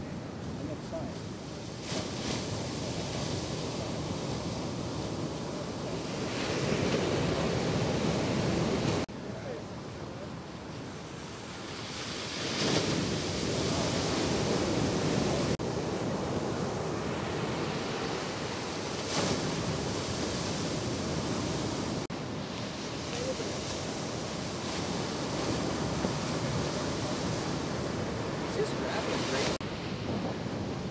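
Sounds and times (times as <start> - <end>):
ocean waves breaking: 0.0 - 30.9.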